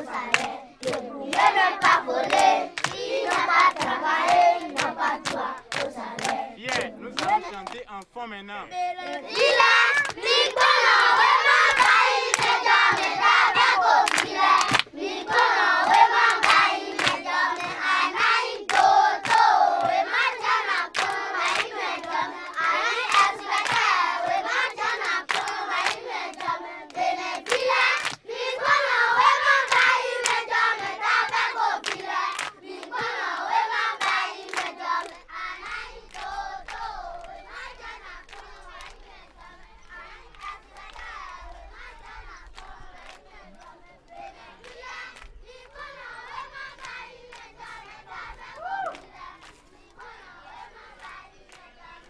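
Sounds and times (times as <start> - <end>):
children singing together: 0.0 - 7.6, 8.8 - 52.0
hands clapping in rhythm: 0.0 - 8.4, 9.0 - 52.0.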